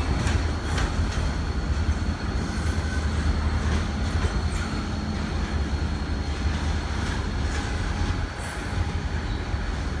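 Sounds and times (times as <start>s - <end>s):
freight train rumbling past: 0.0s - 10.0s.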